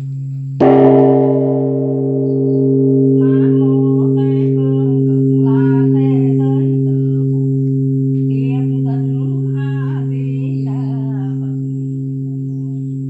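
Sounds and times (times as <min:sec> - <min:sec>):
large temple bell ringing: 0:00.0 - 0:13.0
person chanting: 0:00.6 - 0:13.0.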